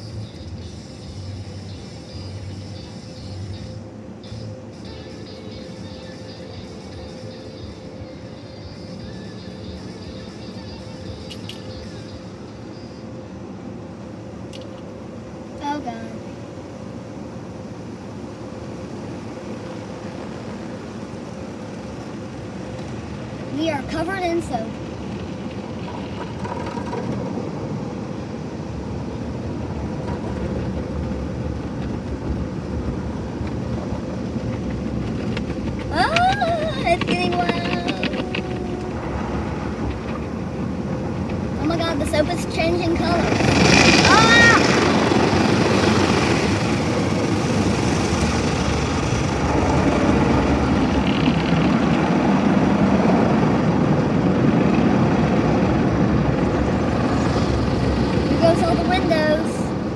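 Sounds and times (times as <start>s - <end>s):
car wash rumble: 0.0s - 59.9s.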